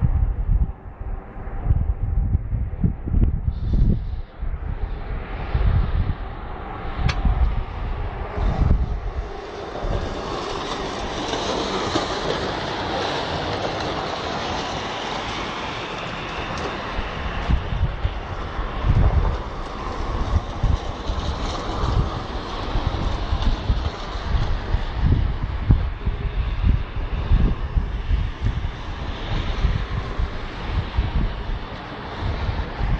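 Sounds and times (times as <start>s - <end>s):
wind buffeting microphone: 0.0s - 32.9s
passing vehicle traffic: 3.6s - 32.9s.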